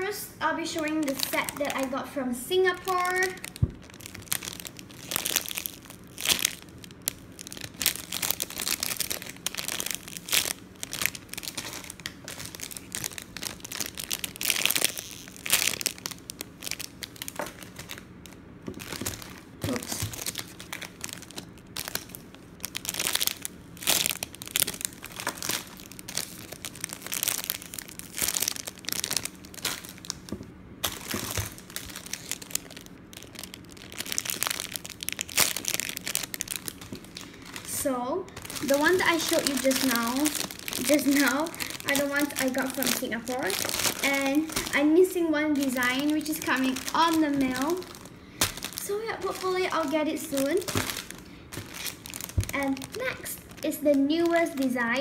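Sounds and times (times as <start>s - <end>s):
plastic packaging crinkling: 0.6s - 55.0s.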